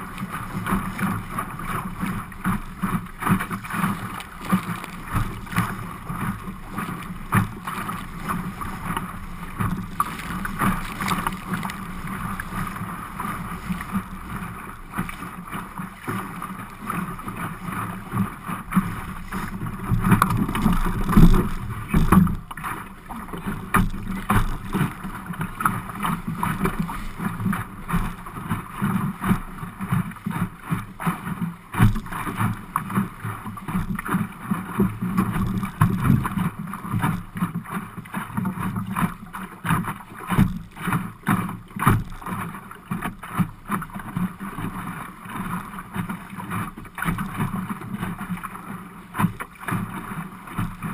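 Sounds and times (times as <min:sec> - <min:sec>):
water slapping against boat hull: 0:00.0 - 0:50.9.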